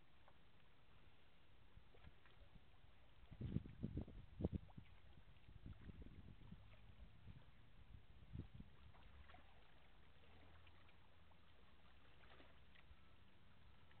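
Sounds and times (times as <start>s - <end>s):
faint low rumble: 0.0s - 14.0s.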